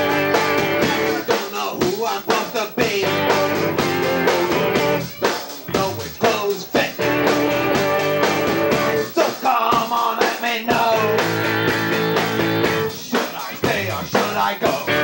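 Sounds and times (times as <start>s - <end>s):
drum kit: 0.0s - 15.0s
electric guitar: 0.0s - 15.0s
person singing: 0.0s - 15.0s.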